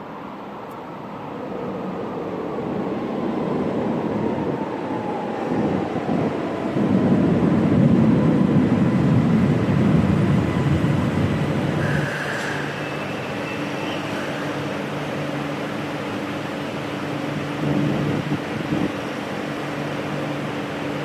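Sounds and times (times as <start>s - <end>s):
light-rail train rumbling on track: 0.0s - 21.0s.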